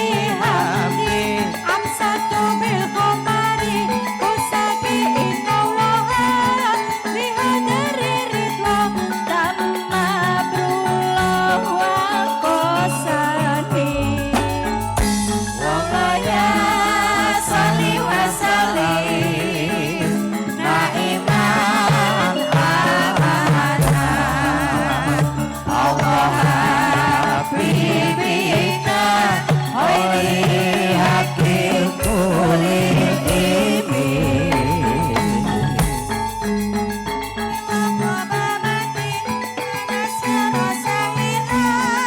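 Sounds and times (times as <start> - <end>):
devotional music with ornamented melody: 0.0 - 42.0.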